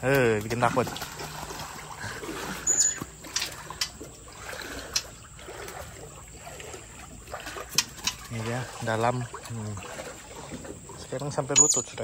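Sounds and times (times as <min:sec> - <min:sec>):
person wading through water: 0:00.0 - 0:12.0.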